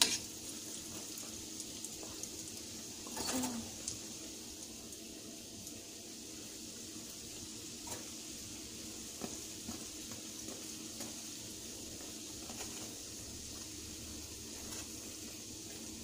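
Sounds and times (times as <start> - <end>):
dough deep-frying in oil: 0.0 - 16.0.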